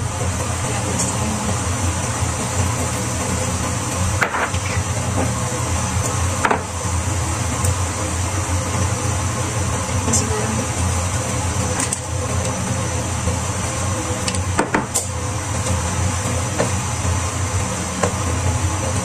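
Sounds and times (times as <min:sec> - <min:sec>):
gas stove hum and hiss: 0:00.0 - 0:19.0.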